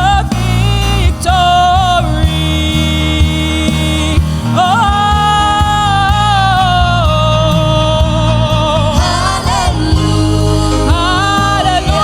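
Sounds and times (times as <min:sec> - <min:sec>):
singer holding long note: 0:00.0 - 0:12.0
worship band music: 0:00.0 - 0:12.0.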